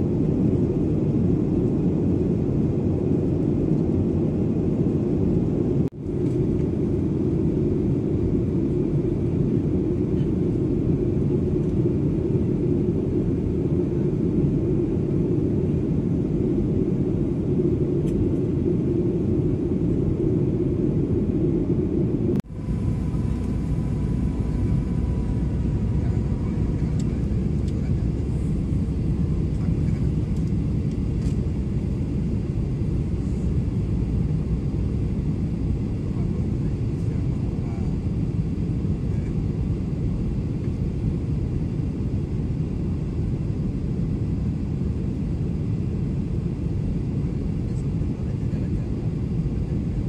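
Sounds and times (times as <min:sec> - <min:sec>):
airplane cabin roar: 0:00.0 - 0:50.0.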